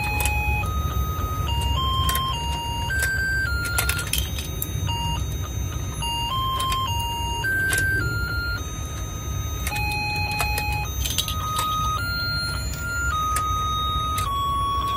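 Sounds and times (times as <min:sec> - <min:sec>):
toy motor hum: 0:00.0 - 0:05.2, 0:06.0 - 0:08.6, 0:09.5 - 0:14.9
electronic beeping tune: 0:00.0 - 0:14.9.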